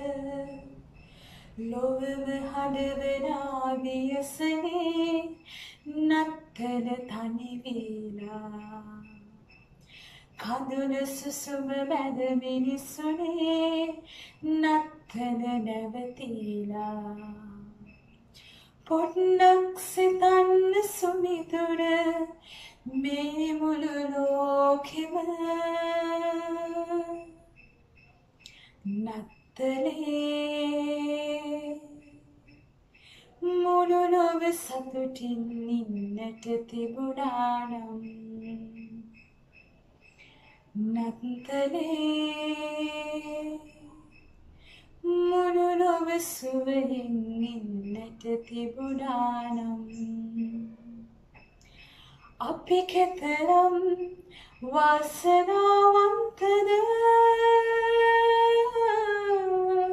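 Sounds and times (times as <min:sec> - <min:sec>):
woman singing unaccompanied: 0:00.0 - 0:27.7, 0:28.4 - 0:39.3, 0:40.2 - 0:44.3, 0:44.9 - 0:59.9.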